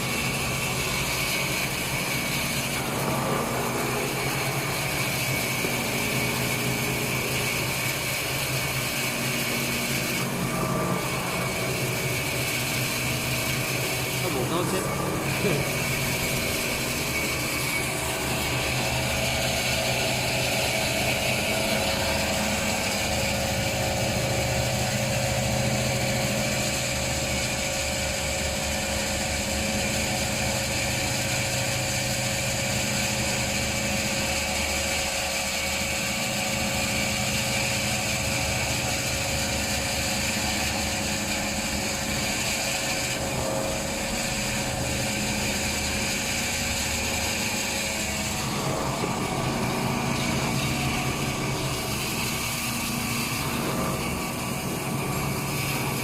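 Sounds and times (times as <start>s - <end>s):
band saw machine running: 0.0s - 56.0s.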